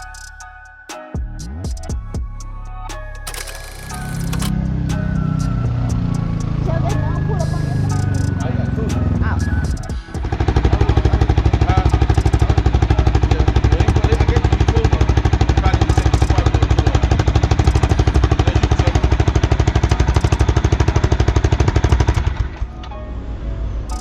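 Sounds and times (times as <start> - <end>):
engine chugging: 3.3 - 22.8.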